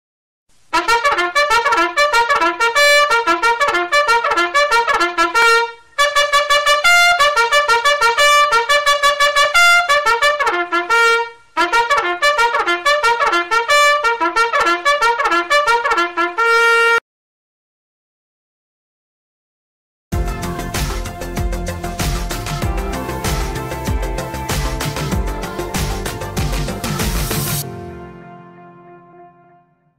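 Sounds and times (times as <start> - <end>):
trumpet playing bugle call: 0.7 - 17.0, 20.2 - 29.9.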